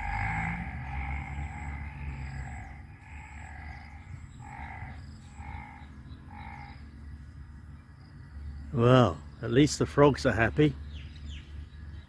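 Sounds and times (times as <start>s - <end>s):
low rumble: 0.0s - 9.9s
frogs calling: 0.0s - 12.0s.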